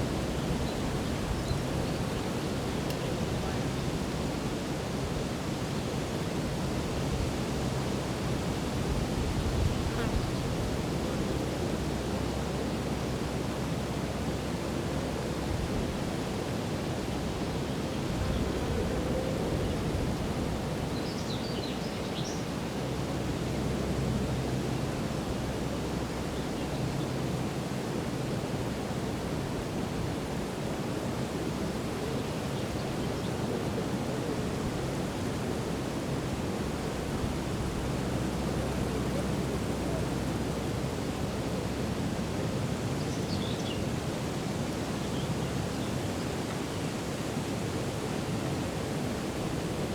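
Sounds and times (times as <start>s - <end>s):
rushing outdoor ambience: 0.0s - 49.9s.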